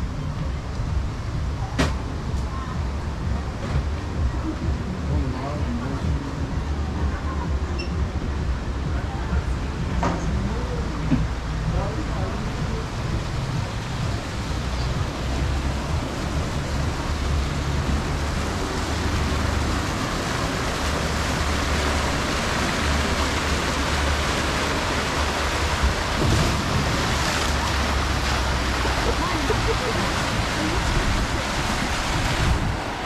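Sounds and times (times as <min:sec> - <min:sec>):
steady rushing noise: 0:00.0 - 0:33.0
wind rumbling on microphone: 0:00.0 - 0:33.0.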